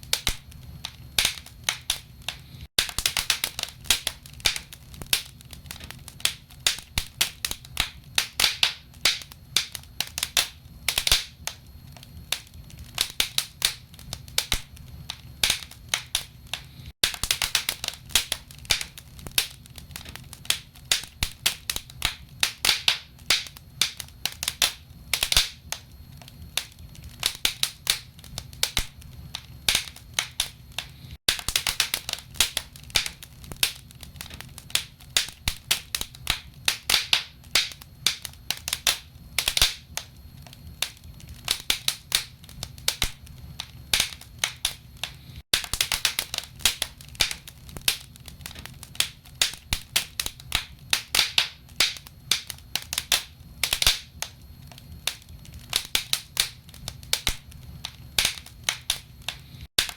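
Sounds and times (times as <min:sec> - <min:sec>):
logs crackling in a fireplace: 0:00.0 - 0:59.9.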